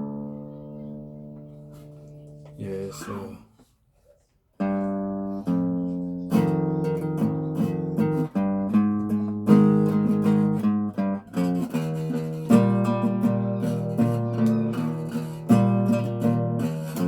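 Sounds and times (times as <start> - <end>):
guitar playing notes and chords: 0.0 - 2.8, 4.6 - 17.0.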